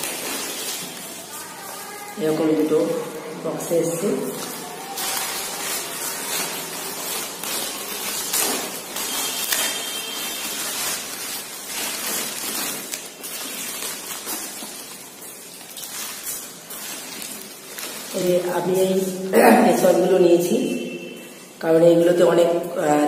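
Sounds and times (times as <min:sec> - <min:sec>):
bubble wrap crinkling: 0:00.0 - 0:22.9.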